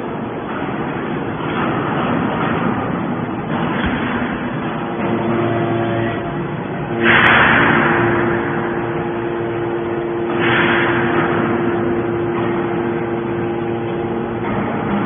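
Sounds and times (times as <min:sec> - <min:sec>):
motor and pump humming: 0:00.0 - 0:15.0.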